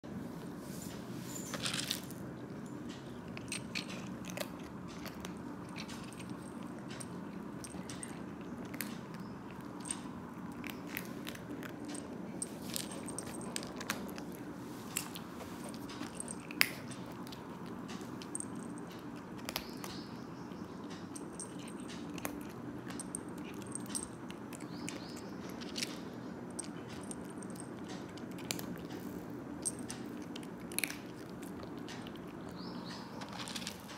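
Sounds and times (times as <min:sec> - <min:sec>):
steady low hum: 0:00.0 - 0:33.9
cat crunching dry kibble: 0:01.4 - 0:33.9.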